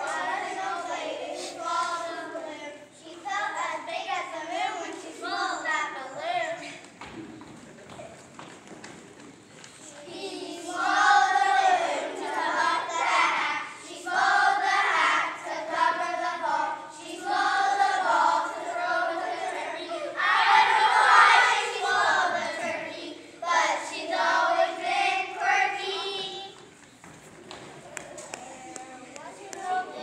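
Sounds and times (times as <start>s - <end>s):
children's choir singing: 0.0s - 6.8s, 10.0s - 26.8s, 27.9s - 30.0s.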